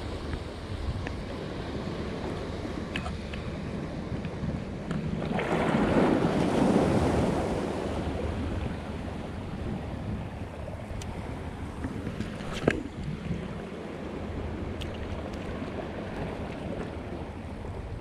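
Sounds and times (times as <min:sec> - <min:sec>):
small waves washing on shore: 0:00.0 - 0:18.0
wind on microphone: 0:00.0 - 0:18.0.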